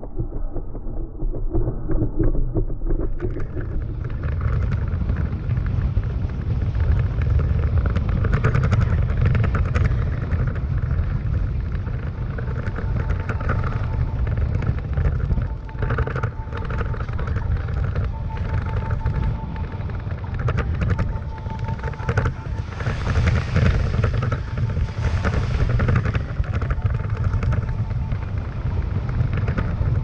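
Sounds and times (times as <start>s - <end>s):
truck engine and tyres rumbling: 0.0s - 30.0s
knocks and rattles over ruts: 3.0s - 30.0s.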